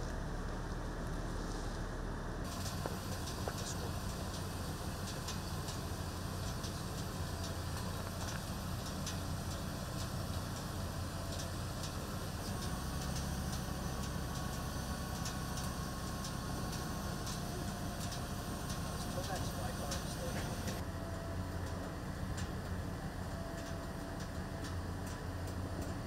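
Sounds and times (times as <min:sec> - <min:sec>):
engine idling rumble: 0:00.0 - 0:26.0.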